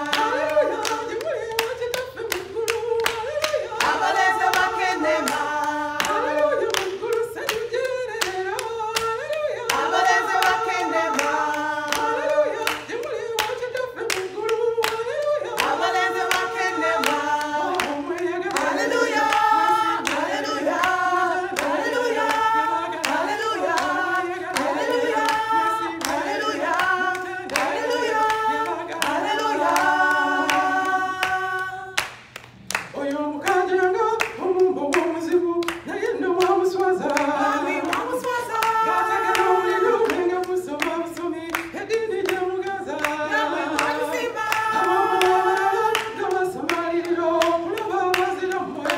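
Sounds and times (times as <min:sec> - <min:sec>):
women singing unaccompanied: 0:00.0 - 0:32.1, 0:32.8 - 0:48.9
rhythmic hand-clapping: 0:00.0 - 0:48.9.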